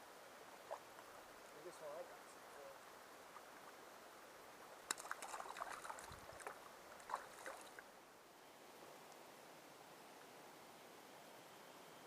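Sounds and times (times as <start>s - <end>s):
faint mountain stream rushing: 0.0s - 12.0s.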